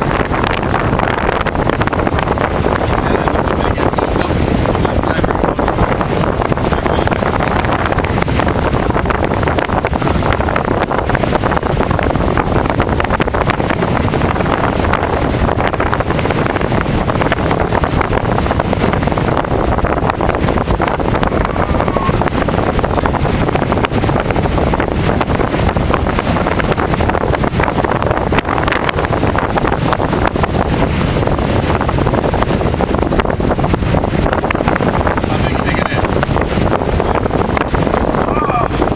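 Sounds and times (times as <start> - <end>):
storm wind buffeting microphone: 0.0 - 38.9.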